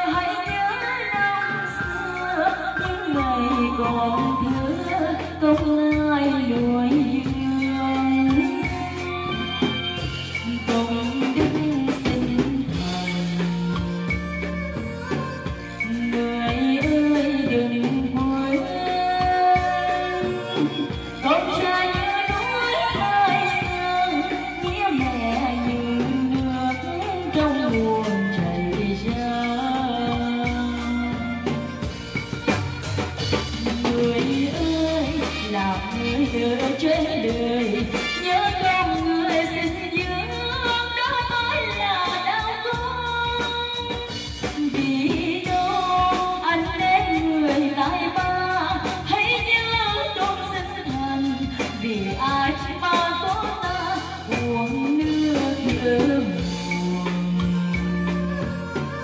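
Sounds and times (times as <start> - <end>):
drum kit: 0.0 - 59.0
woman singing into microphone: 0.0 - 59.0.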